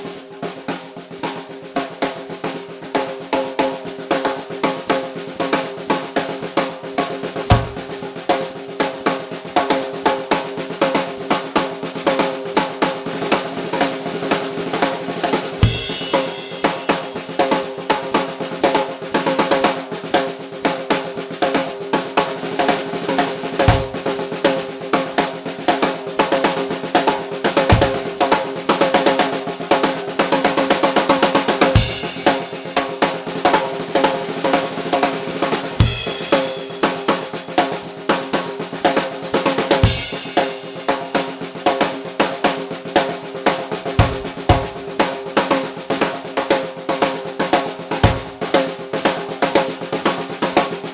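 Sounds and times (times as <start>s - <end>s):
snare drum rolls: 0.0s - 50.9s.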